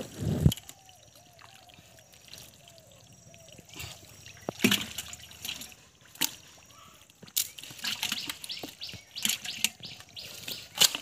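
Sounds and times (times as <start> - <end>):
wet splashes: 0.6 - 11.0.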